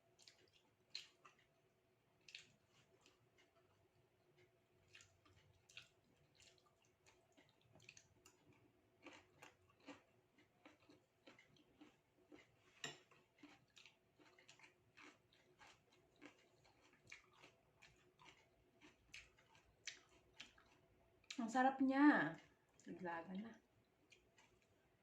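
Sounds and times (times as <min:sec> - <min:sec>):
person chewing: 0:00.1 - 0:01.6, 0:02.2 - 0:21.4, 0:22.4 - 0:22.9, 0:23.8 - 0:25.0.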